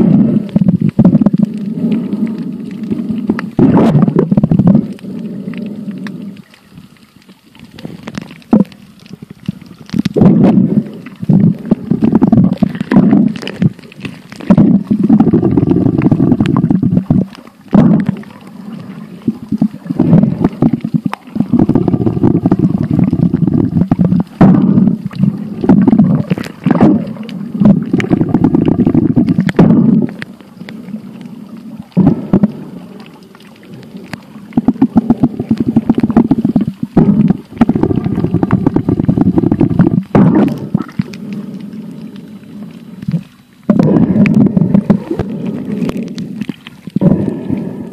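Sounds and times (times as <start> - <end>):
underwater rumbling and sloshing: 0.0 - 47.9.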